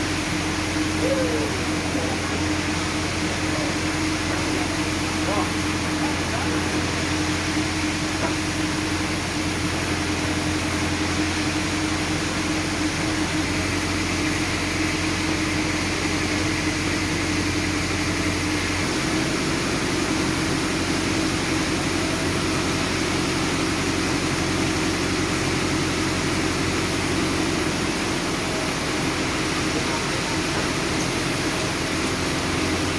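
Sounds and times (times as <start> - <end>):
sawmill machinery humming: 0.0 - 32.9.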